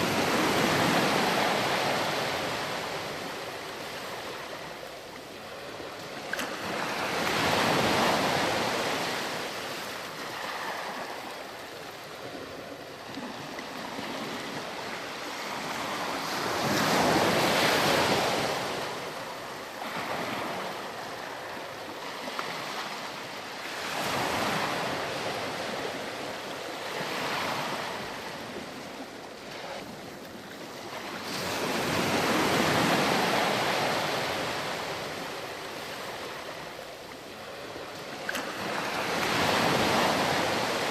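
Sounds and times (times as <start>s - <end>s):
waves breaking on sandy beach: 0.0s - 40.9s.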